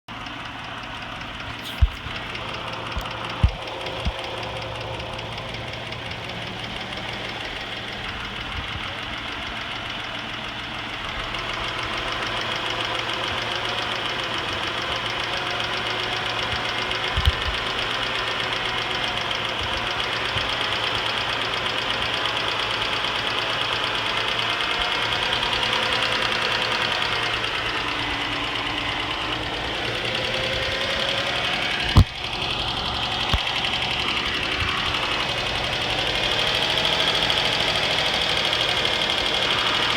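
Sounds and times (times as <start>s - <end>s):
car engine running: 0.1s - 39.9s
rapid engine ticking: 0.1s - 39.9s
sharp engine knock: 0.6s - 39.9s.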